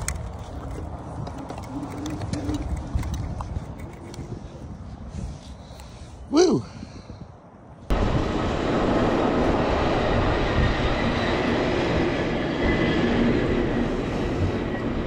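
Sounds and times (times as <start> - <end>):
bicycle ride noise: 0.0 - 15.0
rushing wind: 0.0 - 15.0.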